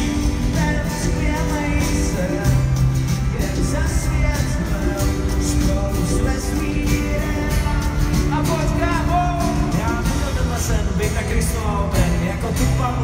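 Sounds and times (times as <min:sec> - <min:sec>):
person singing: 0:00.0 - 0:13.0
steady bass line: 0:00.0 - 0:13.0.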